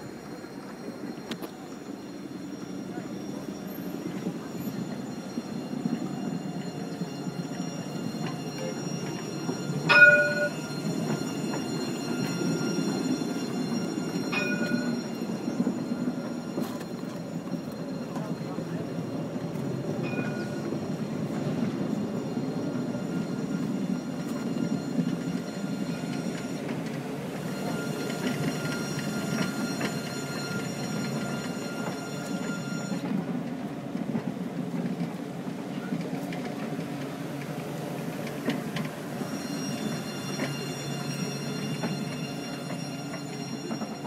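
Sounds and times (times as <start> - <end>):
tram low rumble: 0.0 - 44.0.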